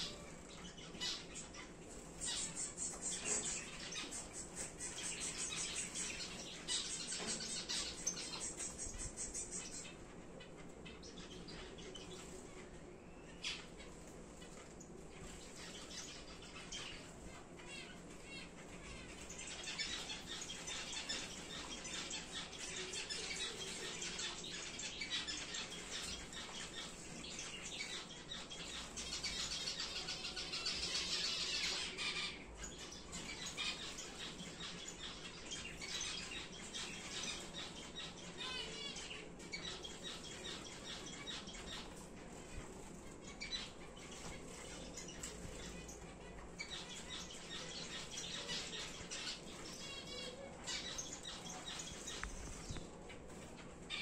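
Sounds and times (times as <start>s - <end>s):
finches chirping and calling: 0.0s - 54.0s.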